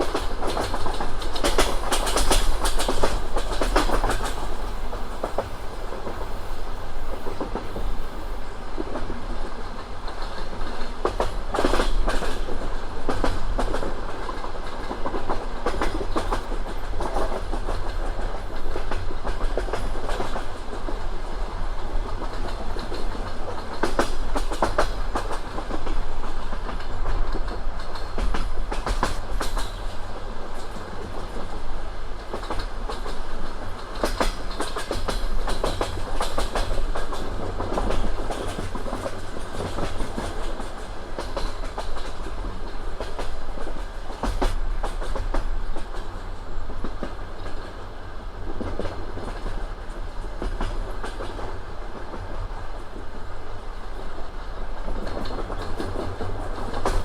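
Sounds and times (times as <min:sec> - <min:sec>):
train wheels clacking over rail joints: 0:00.0 - 0:47.8, 0:48.4 - 0:57.0
train rolling rumble: 0:00.0 - 0:57.0.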